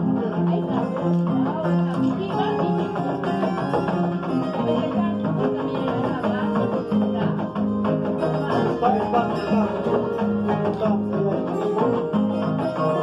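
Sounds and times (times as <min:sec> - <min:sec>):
harp plucked melody: 0:00.0 - 0:13.0.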